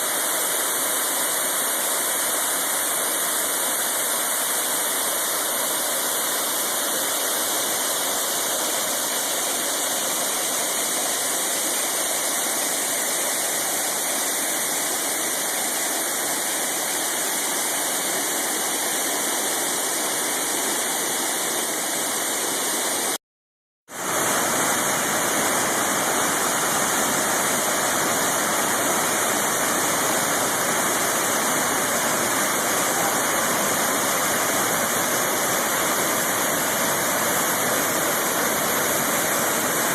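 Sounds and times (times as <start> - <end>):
waterfall rushing: 0.0 - 23.2, 23.9 - 39.9.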